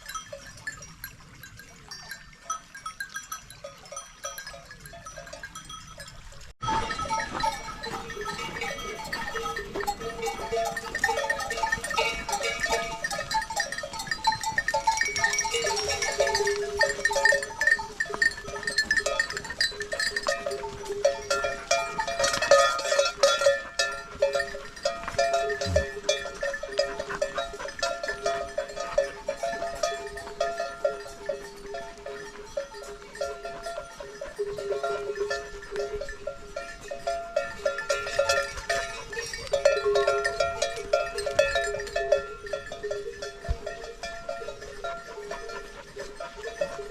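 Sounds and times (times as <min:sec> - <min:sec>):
small bells clanking: 0:00.0 - 0:46.9.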